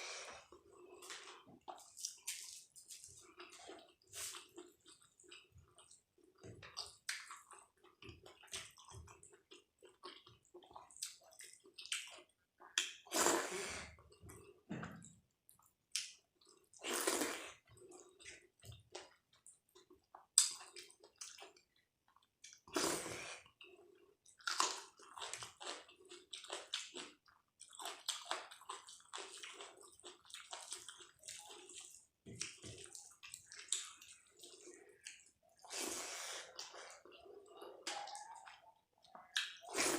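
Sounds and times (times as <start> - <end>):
wet chewing and lip smacks: 0.5 - 13.1, 15.5 - 16.8, 17.8 - 22.7, 23.6 - 35.8, 36.5 - 39.9.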